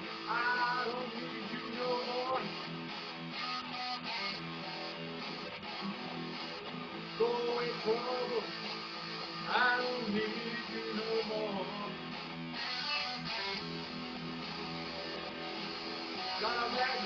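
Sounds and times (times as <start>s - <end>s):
electric guitar blues lead: 0.0s - 17.0s.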